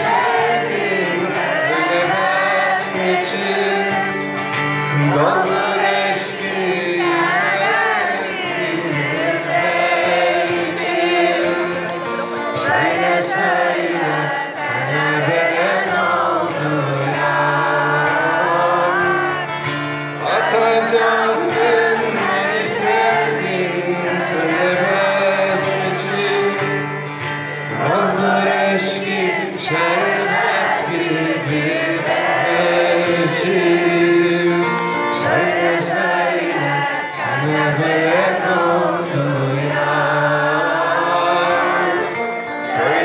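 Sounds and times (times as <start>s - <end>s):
man singing: 0.0s - 27.0s, 27.7s - 43.0s
crowd singing along: 0.0s - 43.0s
electric guitar: 0.0s - 43.0s.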